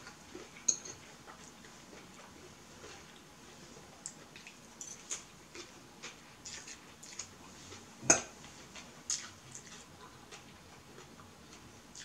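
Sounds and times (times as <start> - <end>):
person chewing noodles: 0.0 - 12.0.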